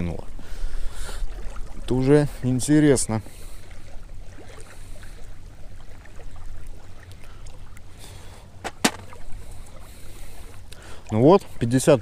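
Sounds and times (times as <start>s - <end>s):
small waves lapping on shore: 0.0s - 12.0s.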